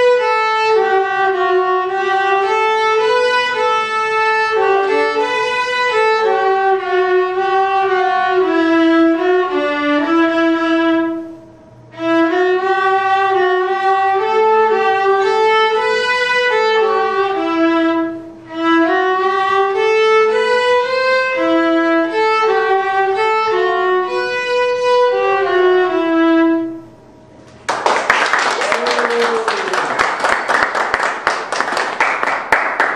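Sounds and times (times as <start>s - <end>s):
viola duet: 0.0s - 27.4s.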